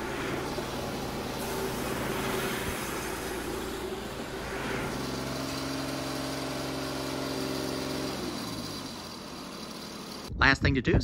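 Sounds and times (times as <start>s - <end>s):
band sawmill running: 0.0s - 10.3s
steady engine hum: 0.0s - 10.3s.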